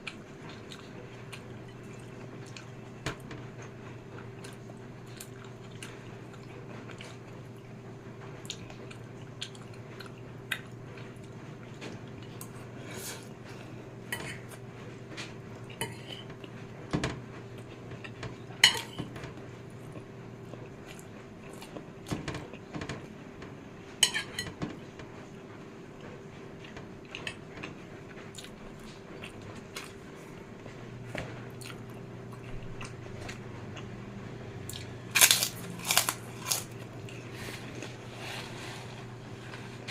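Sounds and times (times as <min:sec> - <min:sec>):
soft chewing: 0:00.0 - 0:16.8, 0:17.4 - 0:23.2, 0:25.9 - 0:34.0, 0:34.6 - 0:39.9
steady low hum: 0:00.0 - 0:39.9.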